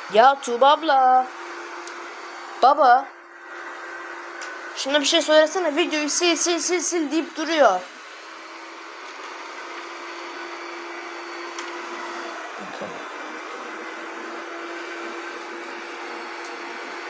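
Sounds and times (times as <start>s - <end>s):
robot vacuum motor whir: 0.0s - 17.0s.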